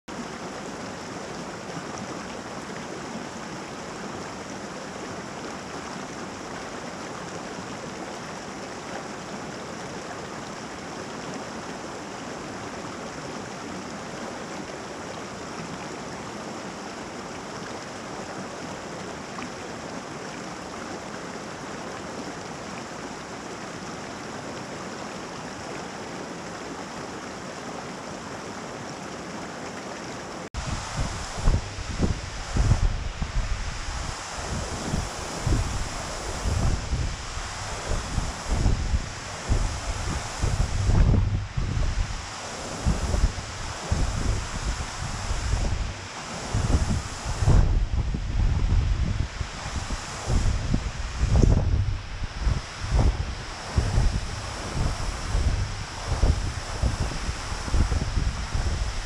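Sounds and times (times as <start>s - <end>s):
stream running over rocks: 0.1s - 59.0s.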